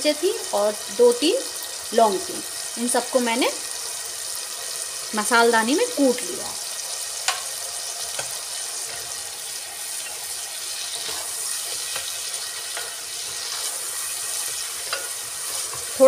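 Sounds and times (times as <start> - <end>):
masala sizzling in oil: 0.0 - 16.0.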